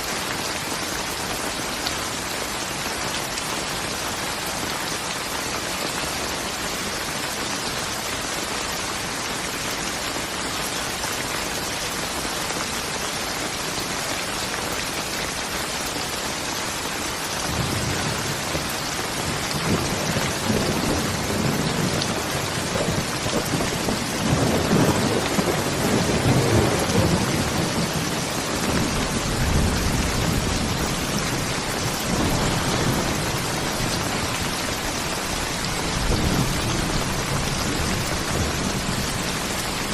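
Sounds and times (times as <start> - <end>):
rain pouring: 0.0 - 39.9.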